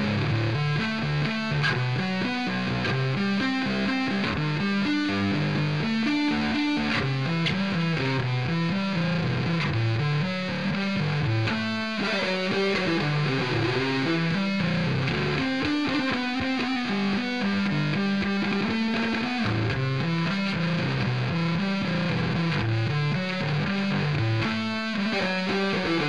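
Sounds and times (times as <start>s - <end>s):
distorted electric bass solo: 0.0s - 26.0s.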